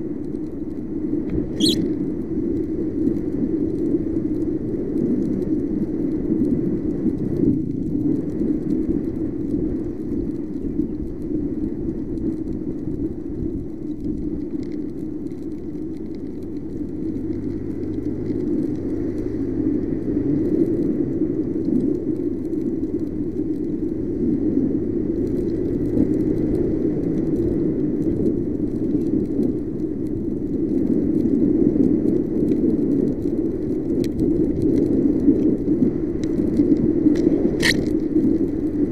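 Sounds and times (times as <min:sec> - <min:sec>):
faint low engine hum: 0:00.0 - 0:38.9
wind and road noise: 0:00.0 - 0:38.9.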